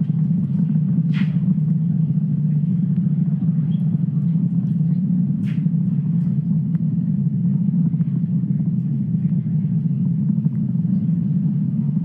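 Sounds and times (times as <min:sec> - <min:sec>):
rocket engines rumbling: 0:00.0 - 0:12.0.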